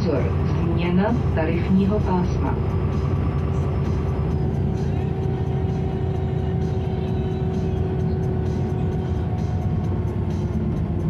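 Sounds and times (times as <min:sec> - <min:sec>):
bus engine and road drone: 0:00.0 - 0:11.0.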